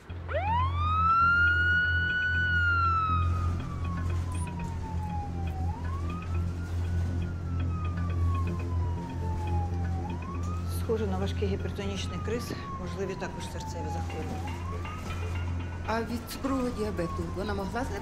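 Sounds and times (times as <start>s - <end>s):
ambulance siren wailing: 0.0s - 18.0s.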